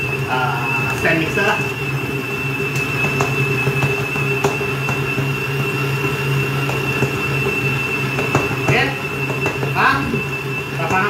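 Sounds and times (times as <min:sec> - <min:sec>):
stand mixer motor hum: 0:00.0 - 0:11.0.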